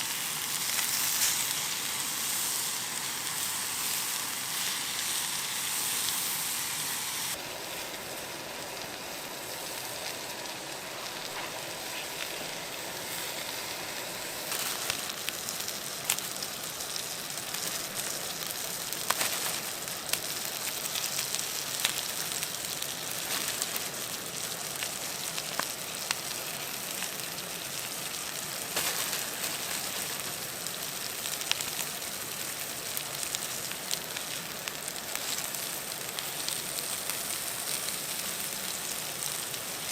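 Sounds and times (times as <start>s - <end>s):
campfire crackling: 0.0s - 39.9s
fire popping: 0.1s - 39.9s.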